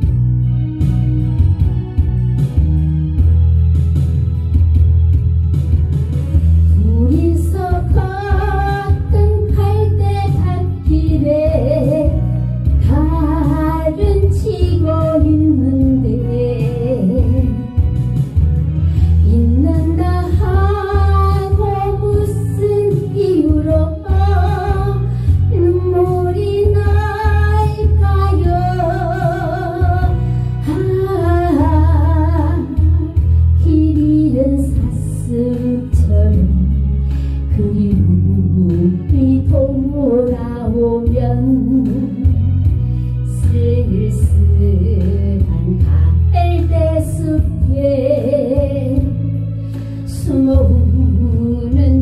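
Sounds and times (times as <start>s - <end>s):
slow song with vibrato melody: 0.0s - 52.0s.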